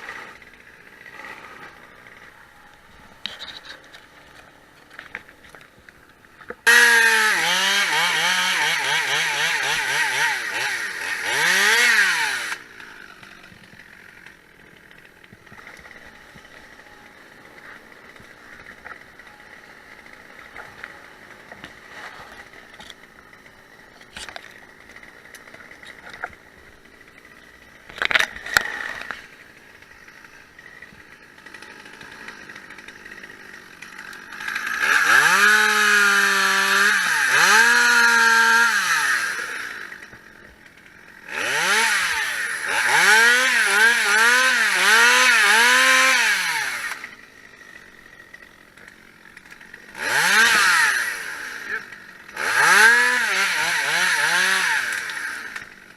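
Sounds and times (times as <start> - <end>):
chainsaw running at high revs: 0.0 - 55.9.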